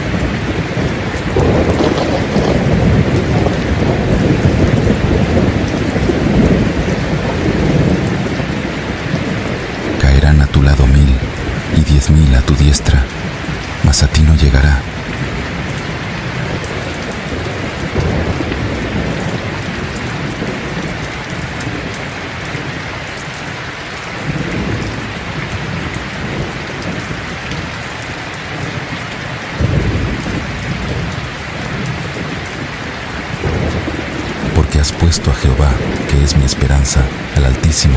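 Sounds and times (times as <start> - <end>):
thunder rolling: 0.0 - 22.8, 29.6 - 37.9
steady rain: 0.0 - 37.9.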